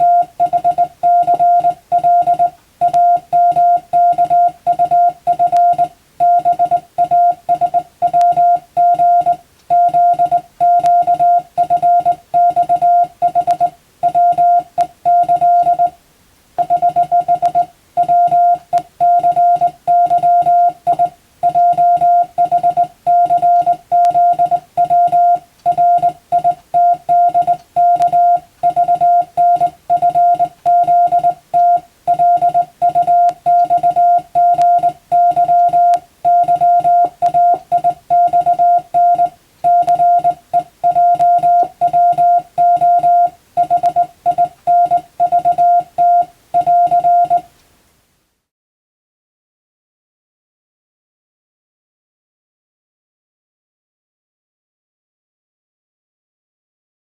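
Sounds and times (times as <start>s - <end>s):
morse code tone: 0.0s - 16.0s, 16.6s - 47.5s.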